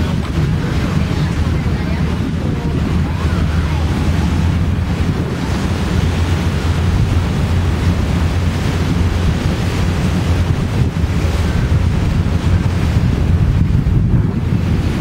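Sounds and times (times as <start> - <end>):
motorboat engine drone: 0.0 - 15.0
water rushing and churning: 0.0 - 15.0
wind buffeting microphone: 0.0 - 15.0.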